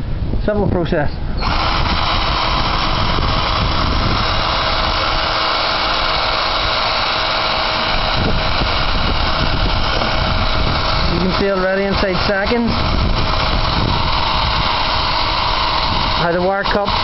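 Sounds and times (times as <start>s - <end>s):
drill motor whine: 1.4s - 17.0s
wire brush scouring metal wheel: 1.4s - 17.0s.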